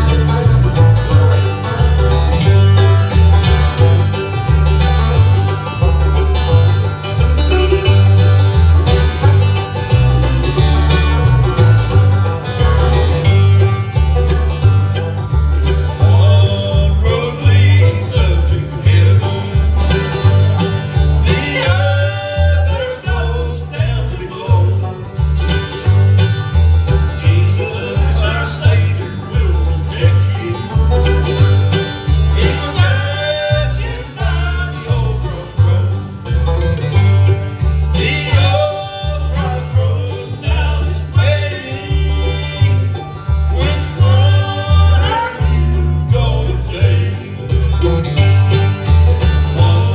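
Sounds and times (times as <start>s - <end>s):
acoustic guitar: 0.0s - 49.9s
banjo: 0.0s - 49.9s
fiddle: 0.0s - 49.9s
pulsing bass line: 0.0s - 49.9s.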